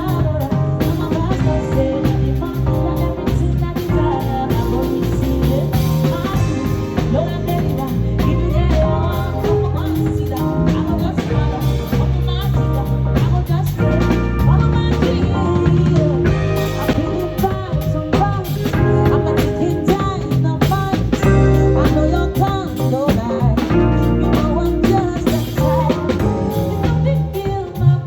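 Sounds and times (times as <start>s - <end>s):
drum kit beat: 0.0s - 28.0s
strong bass notes: 0.0s - 28.0s
gliding melodic line: 1.4s - 28.0s.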